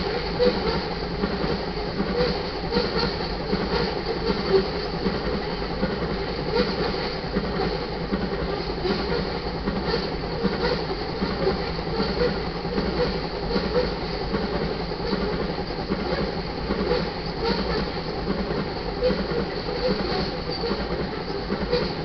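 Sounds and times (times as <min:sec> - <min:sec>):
freight train wheels rumbling on rail: 0:00.0 - 0:22.0
wheels clicking over rail joints: 0:00.0 - 0:22.0.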